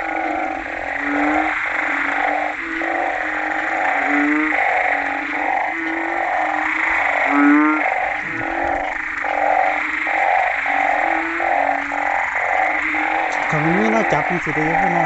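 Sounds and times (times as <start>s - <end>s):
chorus of frogs calling: 0.0s - 15.0s.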